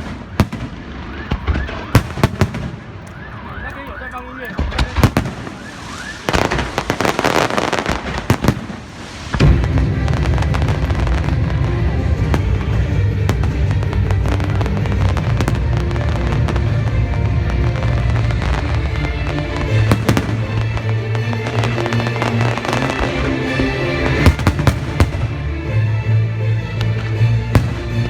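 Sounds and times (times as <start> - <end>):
firecrackers cracking and banging: 0.0 - 25.5, 26.8 - 28.0.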